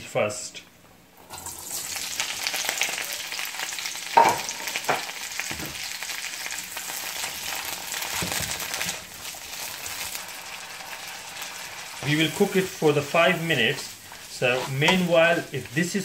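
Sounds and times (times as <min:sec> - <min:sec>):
vegetables sizzling in oil: 0:01.2 - 0:16.0.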